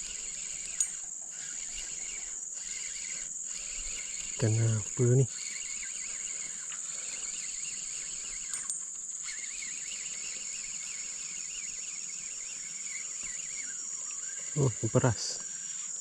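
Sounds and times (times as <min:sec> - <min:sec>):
high-pitched insect drone: 0:00.0 - 0:16.0
wavering chirping: 0:00.0 - 0:16.0.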